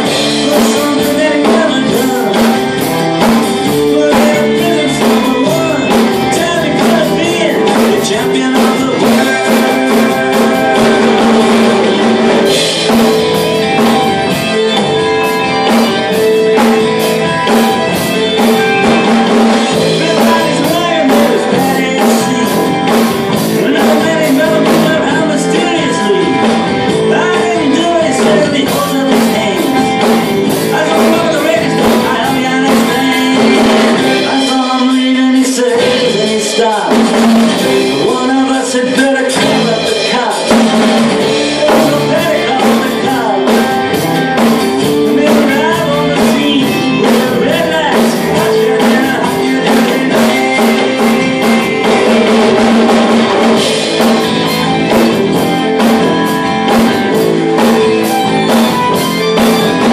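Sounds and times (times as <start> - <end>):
drum strokes and cymbal hits: 0.0 - 59.9
rock song with singing and guitar: 0.0 - 59.9.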